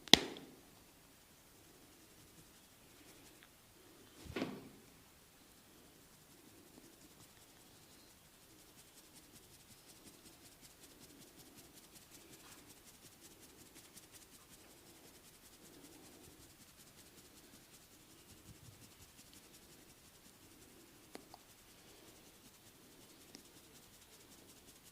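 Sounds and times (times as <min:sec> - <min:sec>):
hands rubbing over skin and hair: 0:01.5 - 0:04.8, 0:05.6 - 0:24.9.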